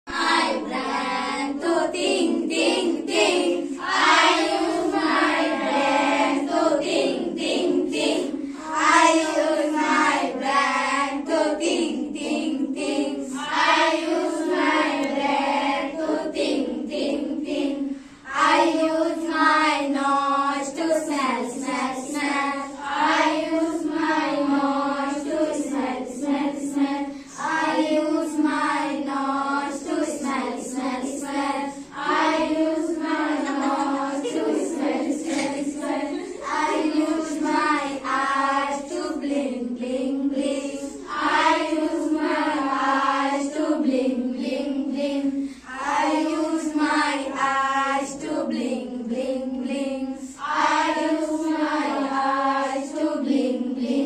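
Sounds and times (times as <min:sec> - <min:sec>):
girls singing in chorus: 0:00.1 - 0:54.0.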